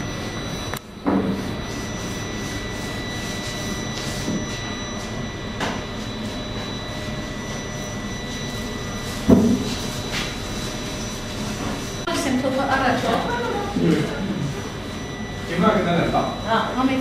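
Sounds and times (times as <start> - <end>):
vehicle engine drone with whine: 0.0 - 17.0.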